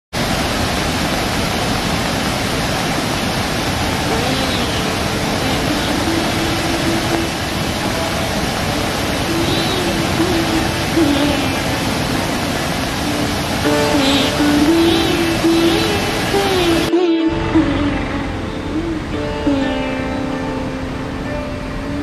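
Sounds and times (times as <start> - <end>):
waterfall rushing over rock: 0.2 - 22.0.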